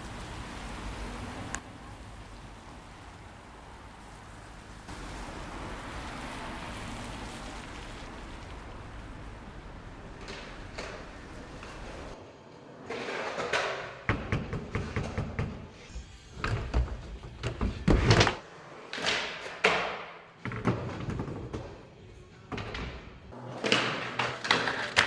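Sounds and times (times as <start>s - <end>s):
skateboard wheels rolling: 3.1s - 21.9s, 22.5s - 25.0s.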